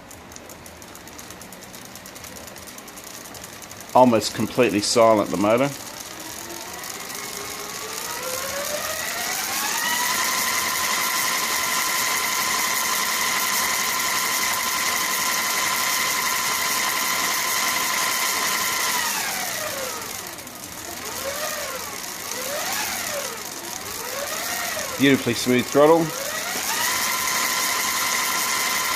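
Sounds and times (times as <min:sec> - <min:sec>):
electric motor whine: 0:04.7 - 0:28.9.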